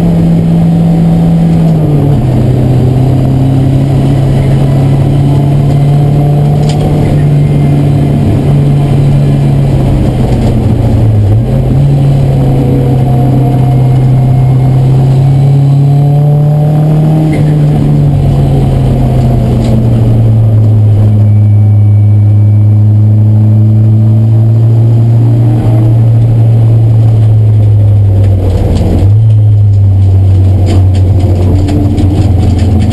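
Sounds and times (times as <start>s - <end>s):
race car engine from inside cabin: 0.0s - 32.9s.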